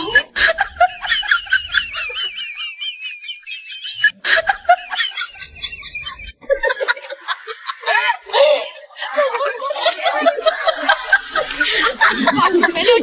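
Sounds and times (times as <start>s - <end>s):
chattering snicker-like sounds: 0.0s - 13.0s.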